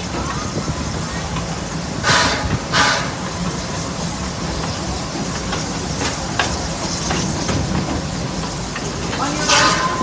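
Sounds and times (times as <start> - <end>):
loud hiss of steam: 0.0 - 10.0
train rumbling on track: 0.0 - 10.0.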